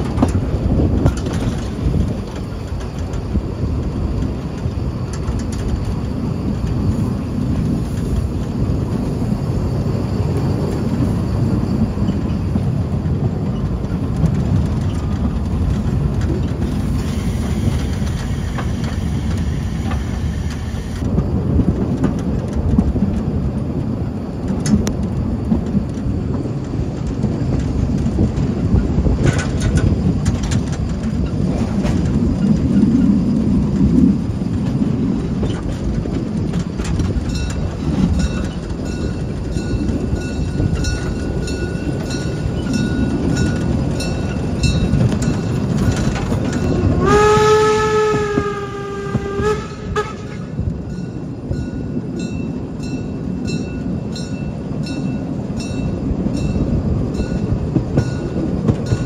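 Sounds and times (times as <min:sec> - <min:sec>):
steam train rumbling: 0:00.0 - 0:59.0
wheels clicking over rail joints: 0:00.0 - 0:59.0.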